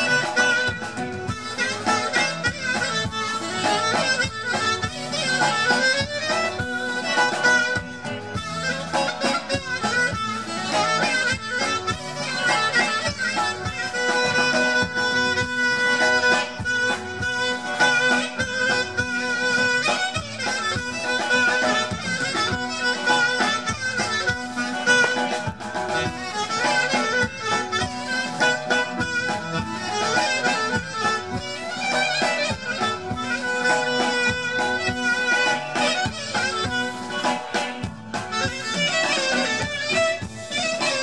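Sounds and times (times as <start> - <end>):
clarinet folk melody over loudspeaker: 0.0 - 41.0
sustained accompaniment: 0.0 - 41.0.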